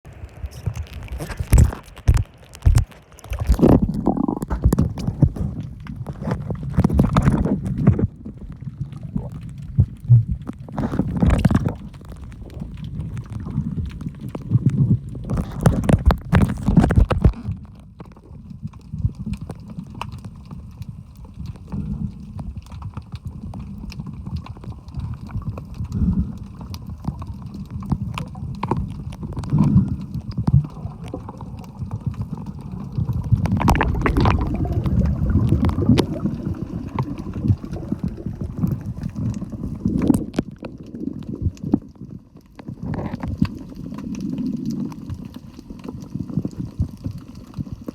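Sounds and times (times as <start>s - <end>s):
water gurgling underwater: 0.0s - 47.9s.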